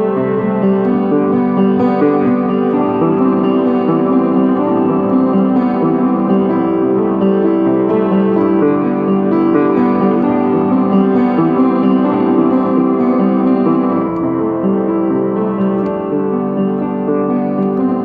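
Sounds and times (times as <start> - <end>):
out-of-tune piano melody: 0.0 - 18.0.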